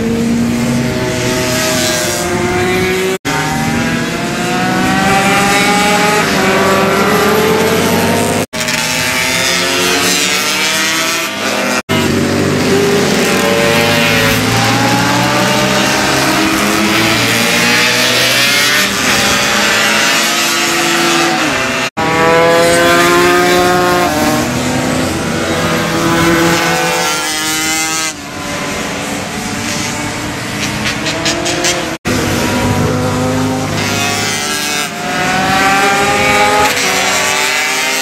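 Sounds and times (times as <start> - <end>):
racing motorcycles passing: 0.0 - 38.0.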